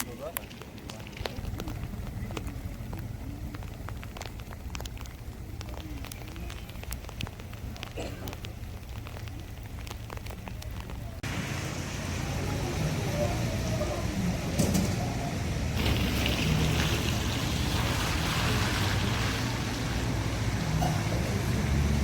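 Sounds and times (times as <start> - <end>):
faint voices: 0.0 - 22.0
steady rain: 0.0 - 22.0
heavy rain hissing: 1.3 - 22.0.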